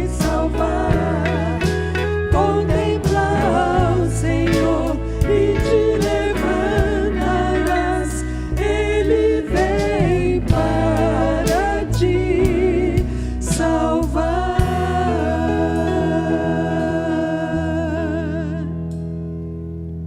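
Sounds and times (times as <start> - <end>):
band playing: 0.0 - 17.4
voices singing worship song: 0.0 - 18.8.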